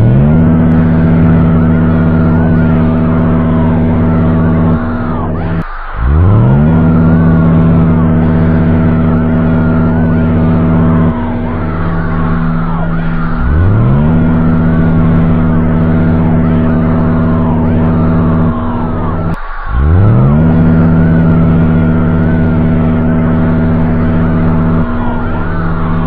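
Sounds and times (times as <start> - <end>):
low buzzing alarm tone: 0.0 - 26.0
wavering higher tones: 0.0 - 26.0.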